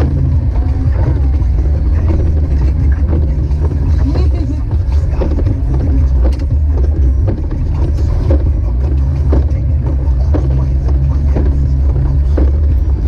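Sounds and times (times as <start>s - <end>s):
car engine and road drone: 0.0s - 13.0s
knocks and rattles: 0.0s - 13.0s.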